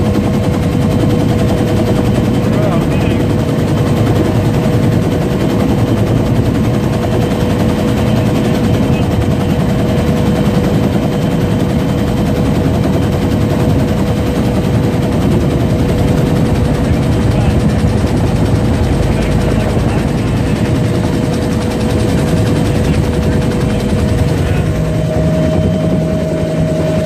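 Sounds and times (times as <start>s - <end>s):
helicopter engine whine: 0.0s - 27.0s
helicopter rotor chop: 0.0s - 27.0s.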